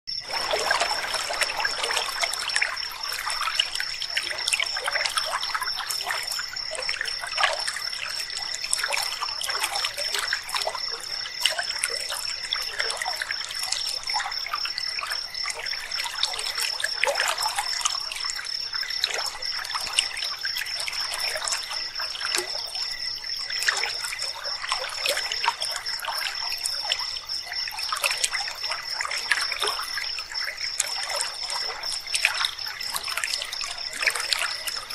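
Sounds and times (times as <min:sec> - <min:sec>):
night insects trilling: 0:00.1 - 0:34.9
river water babbling: 0:00.1 - 0:34.9.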